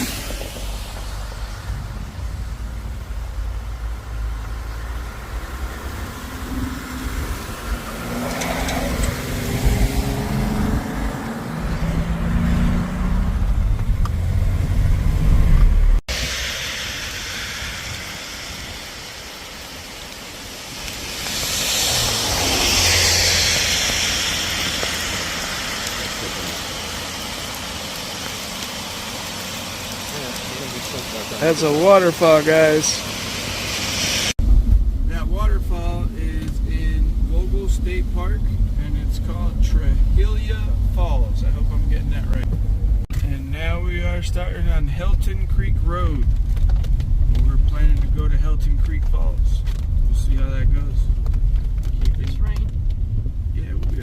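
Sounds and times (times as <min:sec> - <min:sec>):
rushing noise: 0:00.0 - 0:43.7
vehicle driving on wet road: 0:00.0 - 0:54.0.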